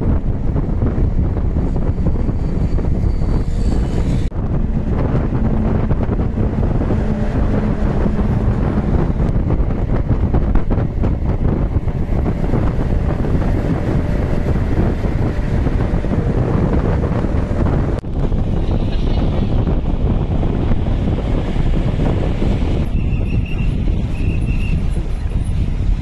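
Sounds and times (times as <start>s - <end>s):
bus rumbling at speed: 0.0s - 26.0s
wind buffeting microphone: 0.0s - 26.0s.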